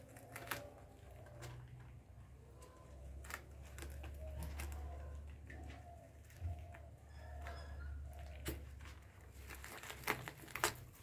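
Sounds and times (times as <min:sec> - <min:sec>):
rabbits chewing with crunching clicks: 0:00.0 - 0:11.0.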